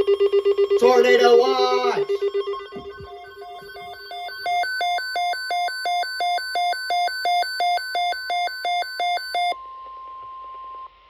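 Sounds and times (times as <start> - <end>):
radio alert beeping: 0.0 - 9.6
steady alarm tone: 0.0 - 9.6.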